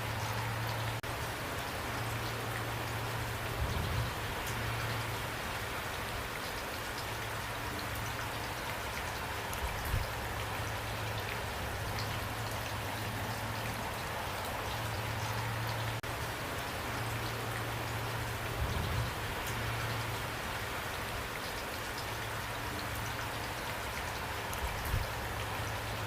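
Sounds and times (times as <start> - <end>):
rain falling: 0.0 - 26.0
raindrops ticking close by: 0.0 - 26.0.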